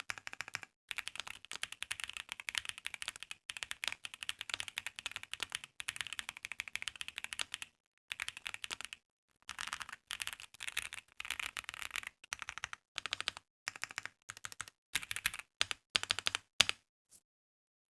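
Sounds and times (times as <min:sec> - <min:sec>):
mechanical keyboard typing: 0:00.0 - 0:16.8.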